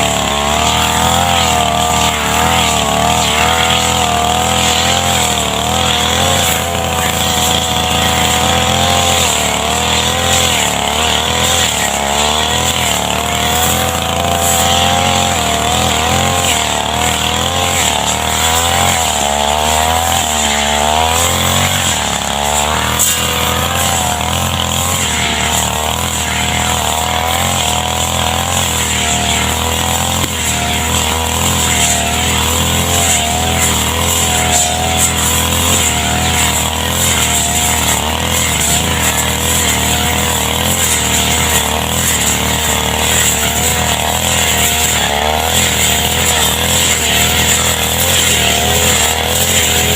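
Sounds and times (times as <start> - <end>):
brush cutter engine running: 0.0 - 49.9.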